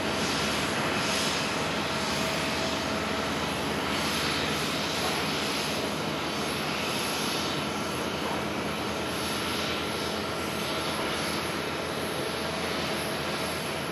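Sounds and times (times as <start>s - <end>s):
jet engine rush with whine: 0.0s - 13.9s.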